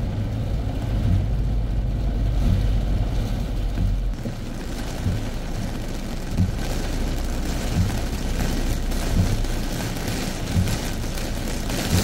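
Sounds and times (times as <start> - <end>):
heavy rain on a car: 0.0 - 12.0
low thumps: 0.8 - 12.0.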